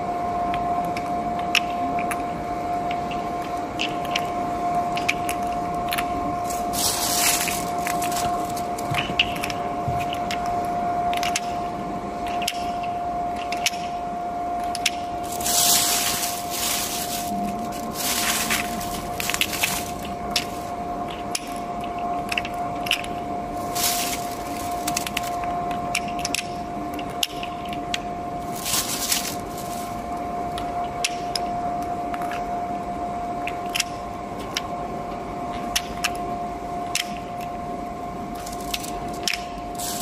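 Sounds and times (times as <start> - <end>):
steady high hum: 0.0 - 40.0
steel balls clicking and knocking: 0.5 - 14.0, 14.6 - 32.6, 33.4 - 34.7, 35.5 - 36.2, 36.8 - 37.6, 38.4 - 40.0.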